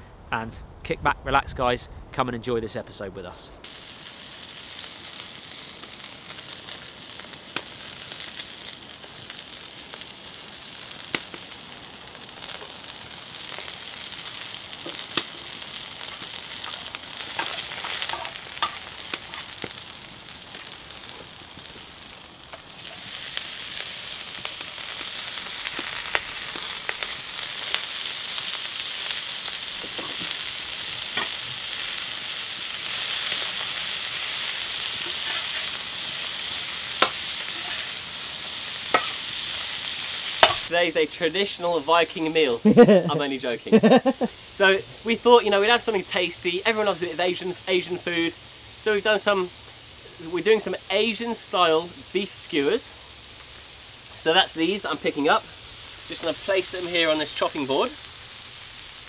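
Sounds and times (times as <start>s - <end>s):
meat sizzling on a pan: 3.6s - 59.0s.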